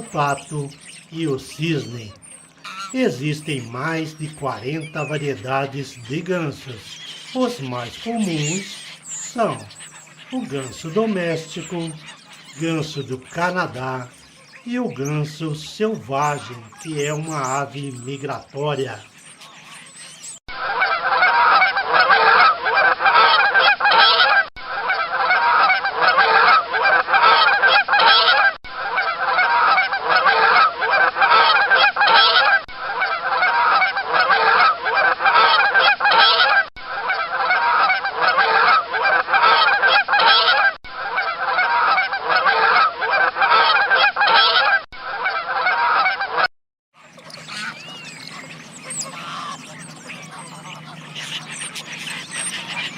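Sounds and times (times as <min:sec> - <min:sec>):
geese honking: 0:00.0 - 0:52.9.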